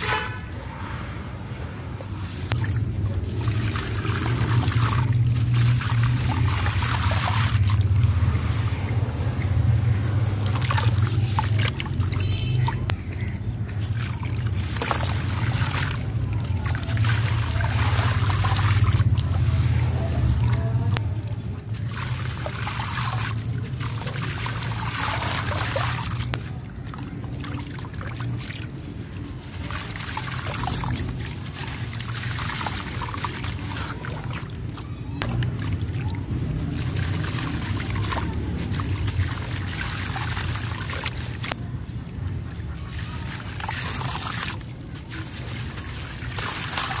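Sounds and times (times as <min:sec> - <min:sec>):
hands squelching through slurry: 0:00.0 - 0:47.0
wet cement trickling into water: 0:00.0 - 0:47.0.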